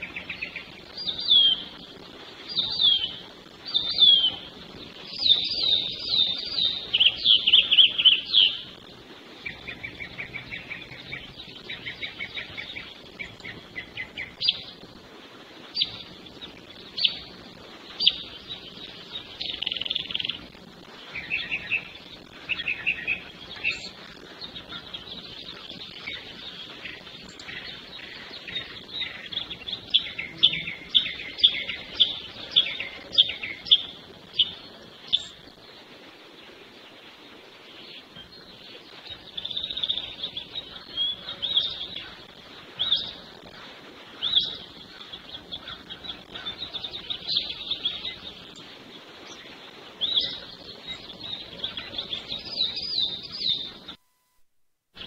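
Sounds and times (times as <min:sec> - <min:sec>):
songbirds singing trills: 0:00.0 - 0:54.0.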